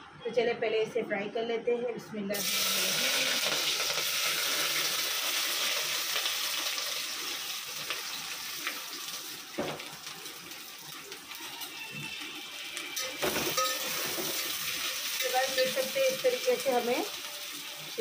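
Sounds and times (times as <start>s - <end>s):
vegetables sizzling in oil: 2.4s - 18.0s.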